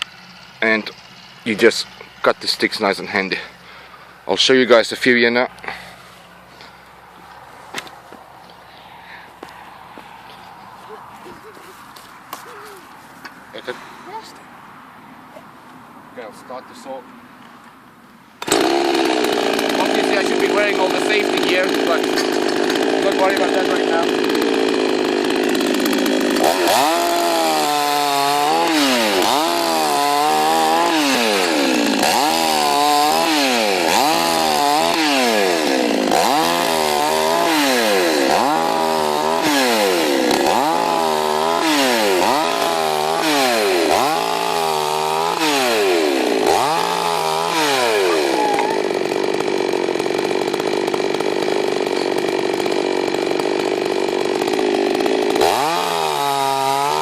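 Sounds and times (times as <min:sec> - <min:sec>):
chainsaw cutting branches: 0:00.0 - 0:04.3, 0:05.3 - 0:14.4, 0:18.4 - 0:57.0
chainsaw revving: 0:00.0 - 0:04.4, 0:05.0 - 0:14.4, 0:18.4 - 0:57.0.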